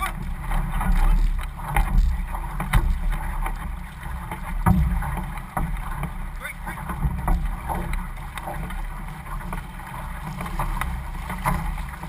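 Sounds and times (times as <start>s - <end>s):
paddles splashing into water: 0.0s - 12.0s
water rushing past hull: 0.0s - 12.0s
wind rumbling on microphone: 0.0s - 12.0s.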